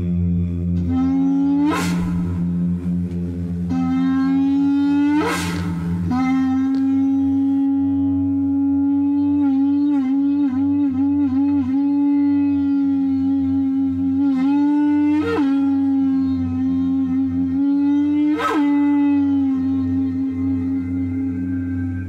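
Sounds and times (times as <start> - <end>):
drone music held tone: 0.0 - 22.0
low hum: 0.0 - 22.0.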